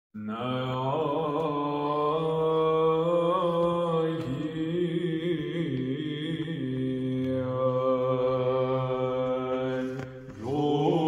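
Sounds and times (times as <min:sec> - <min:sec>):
male choir chanting: 0:00.2 - 0:11.0.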